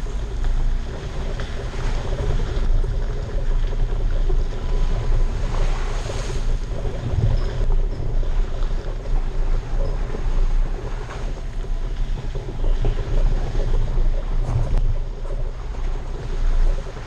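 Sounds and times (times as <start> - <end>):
vehicle low rumble: 0.0 - 17.0
wind buffeting microphone: 0.0 - 17.0.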